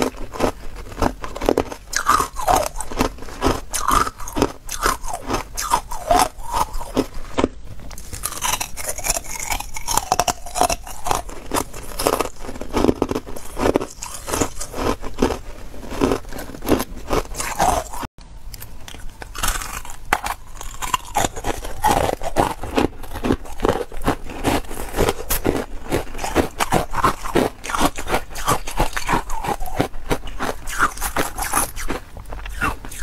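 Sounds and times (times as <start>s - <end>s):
ice crunching being chewed: 0.0s - 33.0s.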